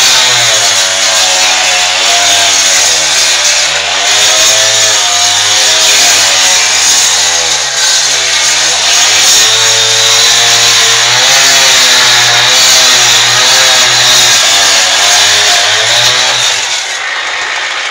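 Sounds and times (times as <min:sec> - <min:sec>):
power saw cutting concrete: 0:00.0 - 0:17.9.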